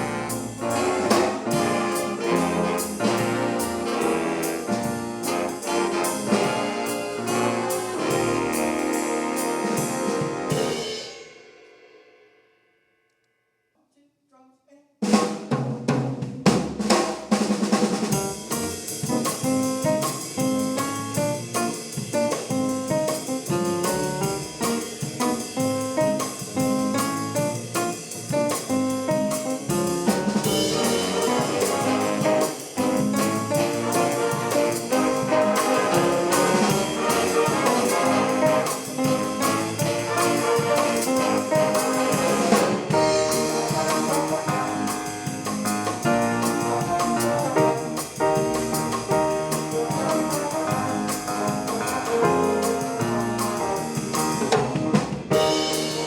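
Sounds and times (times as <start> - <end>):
swing band playing jazz: 0.0 - 11.2, 15.0 - 56.0.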